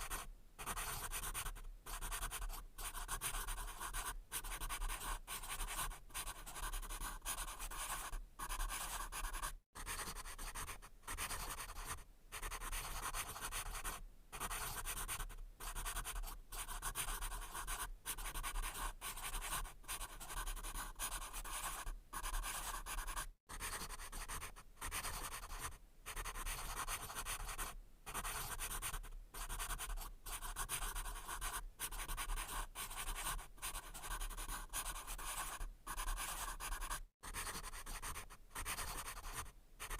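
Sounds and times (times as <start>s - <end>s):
pencil scratching on paper: 0.0s - 39.9s.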